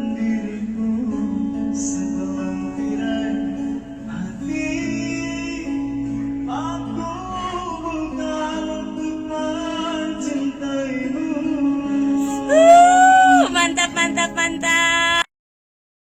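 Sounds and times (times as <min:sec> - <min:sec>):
person singing slow song: 0:00.0 - 0:15.3.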